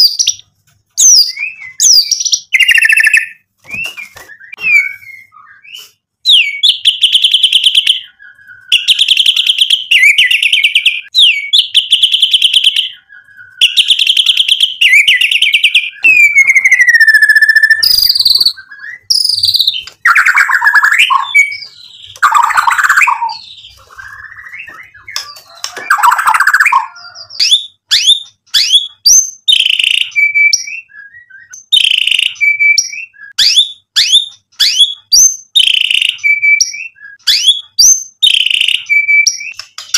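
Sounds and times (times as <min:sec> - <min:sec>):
bird singing rattling trills: 0:01.0 - 0:05.6, 0:06.3 - 0:39.9.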